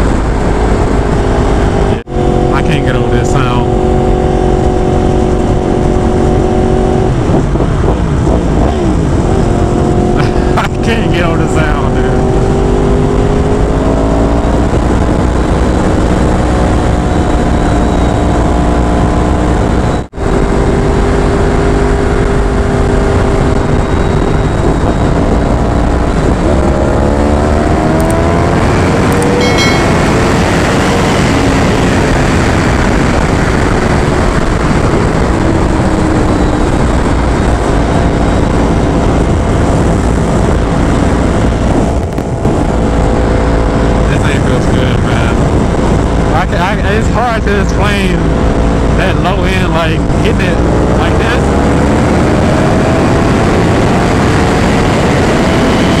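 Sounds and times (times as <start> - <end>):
motorcycle engine revving: 0.0 - 56.0
wind rush on microphone: 0.0 - 56.0.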